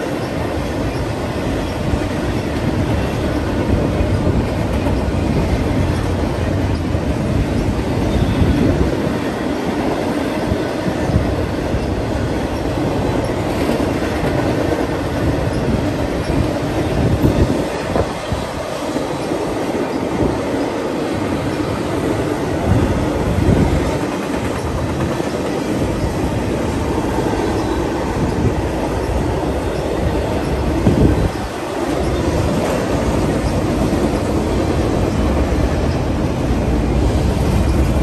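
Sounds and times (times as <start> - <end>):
freight train rumbling: 0.0 - 38.0.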